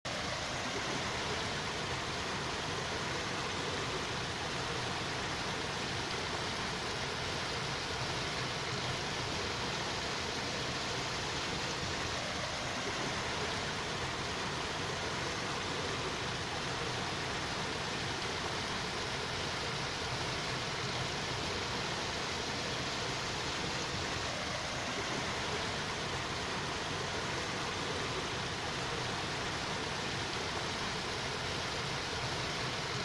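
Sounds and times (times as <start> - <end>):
steady rushing hiss: 0.1 - 33.0.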